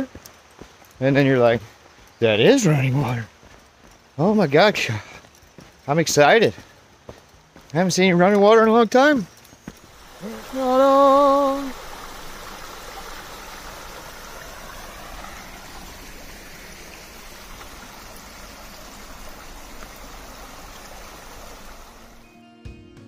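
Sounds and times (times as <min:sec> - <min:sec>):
stream rushing over rocks: 0:00.0 - 0:22.3.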